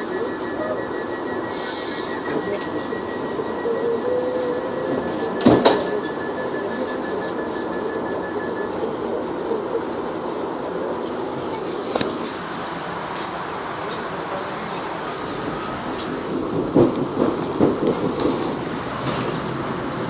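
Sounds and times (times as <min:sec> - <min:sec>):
faint high whine: 0:00.0 - 0:16.3
train rumbling: 0:00.0 - 0:20.0.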